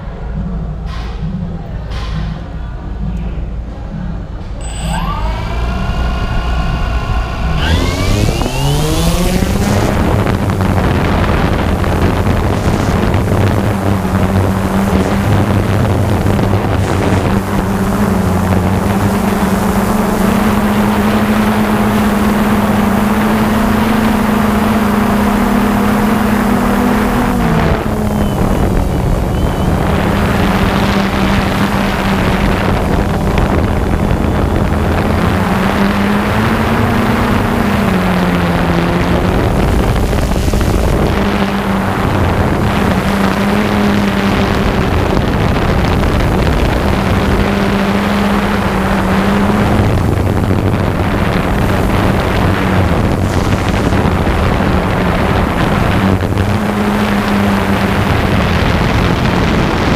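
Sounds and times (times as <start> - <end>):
wind noise on microphone: 0.0 - 59.9
drone propellers whining: 4.0 - 59.9.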